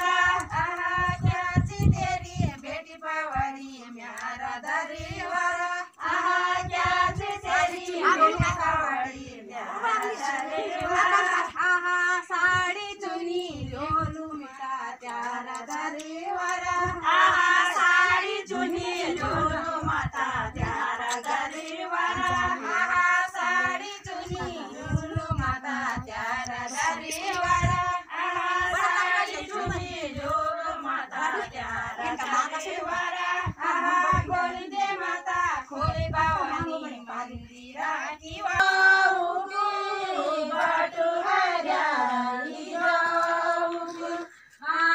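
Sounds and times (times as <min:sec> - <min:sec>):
women singing a folk song: 0:00.0 - 0:44.9.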